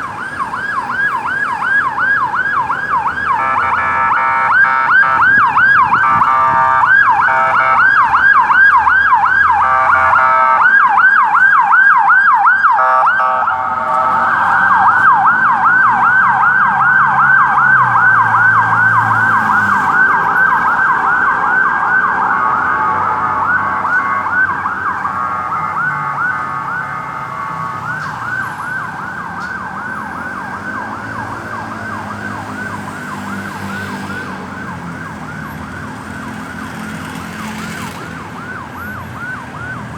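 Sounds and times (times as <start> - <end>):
ambulance siren yelping: 0.0 - 39.9.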